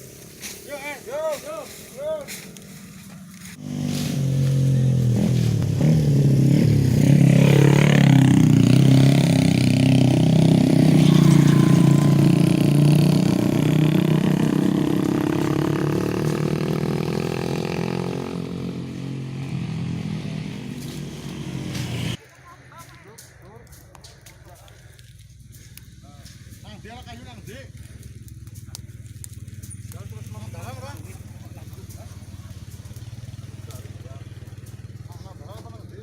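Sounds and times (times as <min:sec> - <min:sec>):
small engine running hard: 0:00.0 - 0:22.2, 0:27.8 - 0:36.0.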